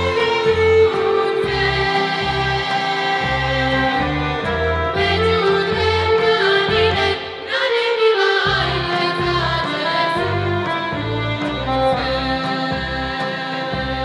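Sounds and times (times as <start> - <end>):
low rhythmic instrumental accompaniment: 0.0 - 14.0
women singing folk song: 0.0 - 14.0.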